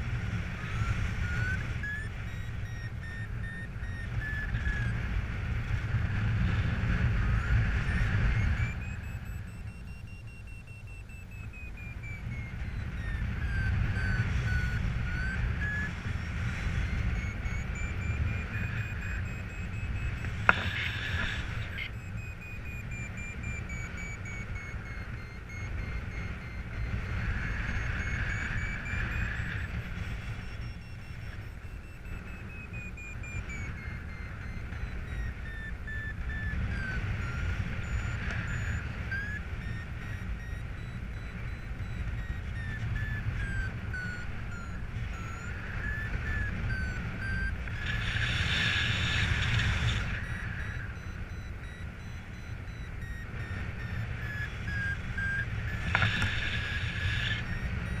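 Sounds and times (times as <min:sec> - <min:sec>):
variometer beeping tone: 0:00.0 - 0:58.0.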